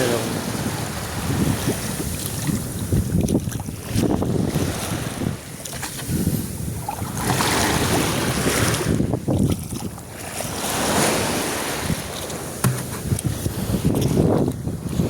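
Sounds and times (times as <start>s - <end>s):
sea waves washing on beach: 0.0s - 15.0s
wind rumbling on microphone: 0.0s - 15.0s.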